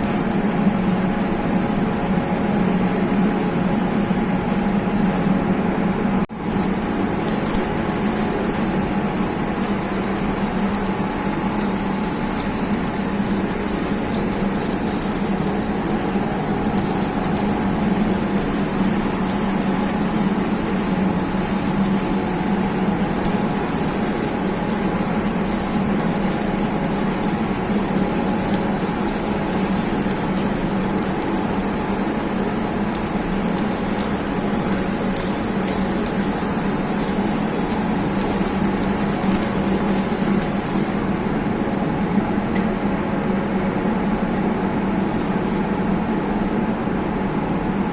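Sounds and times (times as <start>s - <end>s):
crackling welding arc: 0.0s - 5.5s, 6.3s - 41.7s
welding machine hum: 0.0s - 47.9s.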